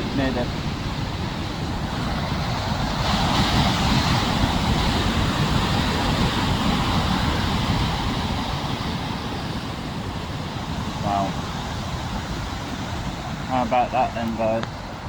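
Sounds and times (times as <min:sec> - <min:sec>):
sea wave breaking: 0:00.0 - 0:15.0
wind buffeting microphone: 0:00.0 - 0:15.0.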